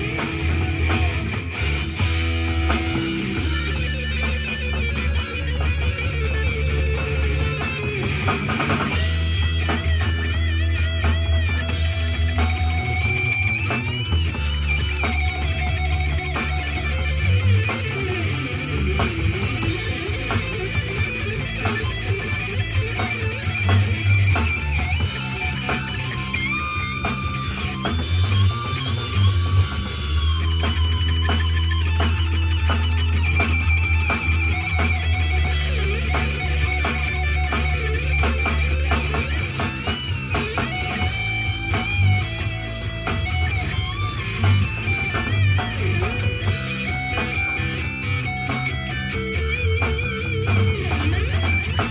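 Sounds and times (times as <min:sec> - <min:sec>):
distorted electric guitar: 0:00.0 - 0:51.9
drum kit playing: 0:00.0 - 0:51.9.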